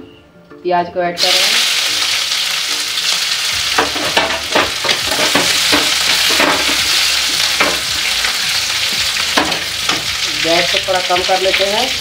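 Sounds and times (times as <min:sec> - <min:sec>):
onions sizzling in oil: 0:01.2 - 0:12.0.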